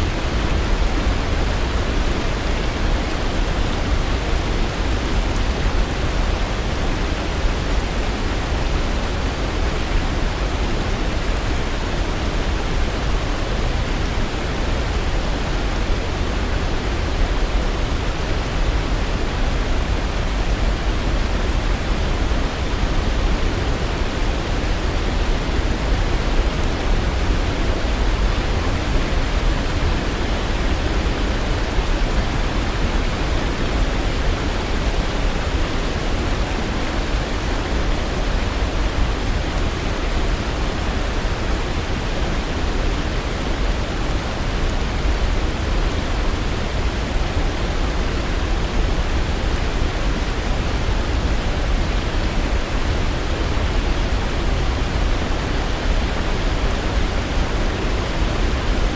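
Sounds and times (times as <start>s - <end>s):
waterfall roar: 0.0s - 58.9s.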